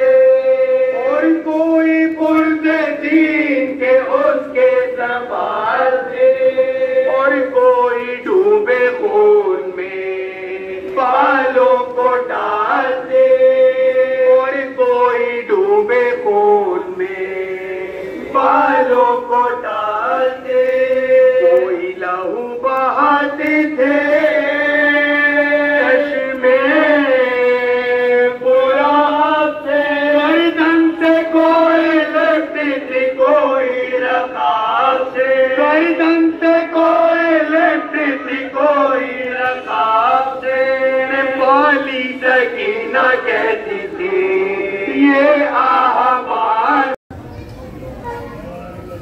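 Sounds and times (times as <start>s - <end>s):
men chanting through microphone: 0.0s - 47.0s.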